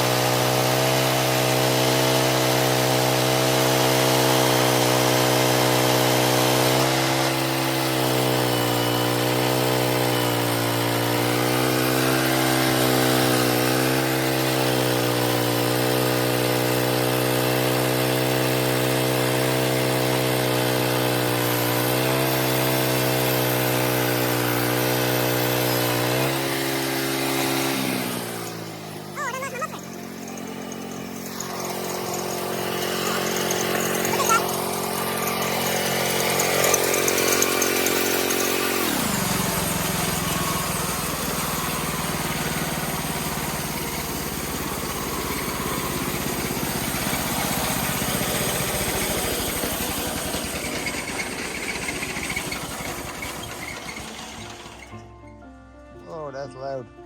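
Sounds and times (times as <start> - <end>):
saw cutting through log: 0.0 - 55.0
gas engine running: 0.0 - 56.8.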